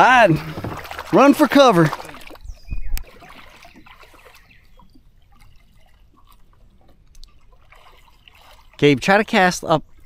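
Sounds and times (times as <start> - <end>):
creek water trickling: 0.0 - 10.0.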